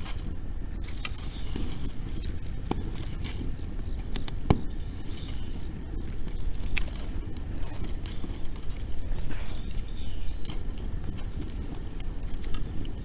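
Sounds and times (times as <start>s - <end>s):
bonfire crackling: 0.0s - 13.0s
sharp fire pops: 0.0s - 13.0s
steady low rumble: 0.0s - 13.0s.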